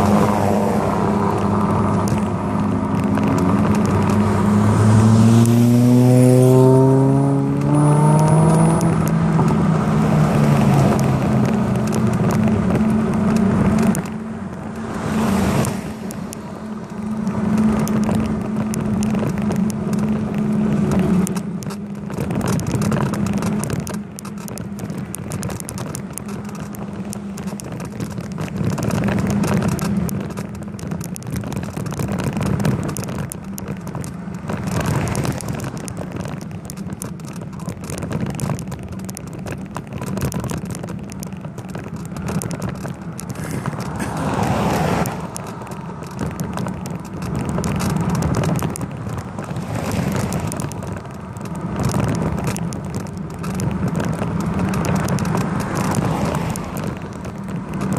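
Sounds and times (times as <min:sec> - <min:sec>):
bicycle road rumble: 0:00.0 - 0:57.9
fine rattling and clicking: 0:08.8 - 0:57.9.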